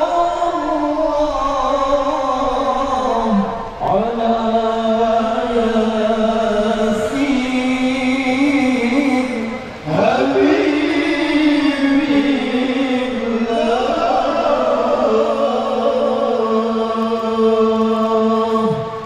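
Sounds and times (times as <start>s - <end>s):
voices chanting long held notes: 0.0s - 19.0s.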